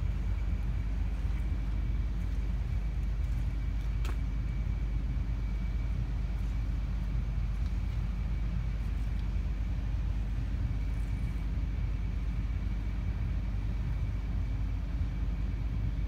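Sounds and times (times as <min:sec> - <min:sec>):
diesel engine idling: 0:00.0 - 0:16.0
faint high whine: 0:00.0 - 0:16.0.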